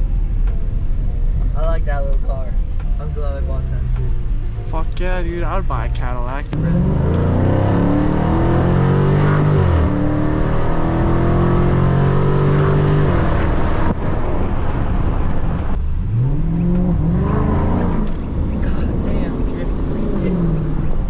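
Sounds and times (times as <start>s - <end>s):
car engine accelerating hard: 3.1s - 21.0s.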